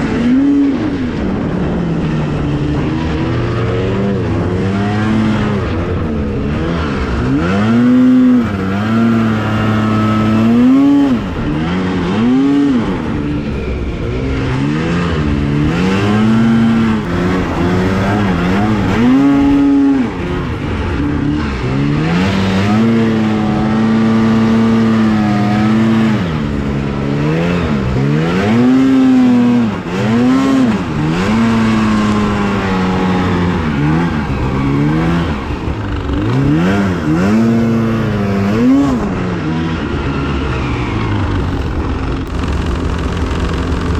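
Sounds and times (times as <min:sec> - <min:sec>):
snowmobile engine revving: 0:00.0 - 0:43.9.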